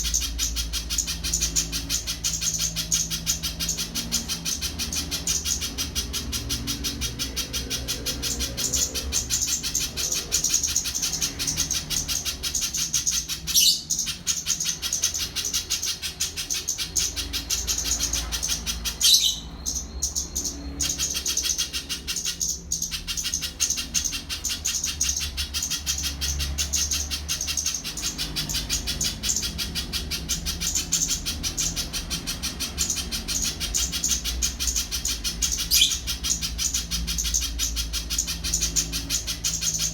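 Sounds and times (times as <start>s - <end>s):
bird singing high rapid notes: 0.0s - 39.9s.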